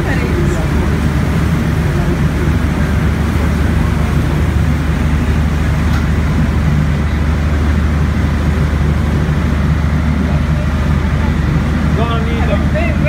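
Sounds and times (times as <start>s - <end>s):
boat engine drone: 0.0s - 13.0s
wind and water rushing: 0.0s - 13.0s.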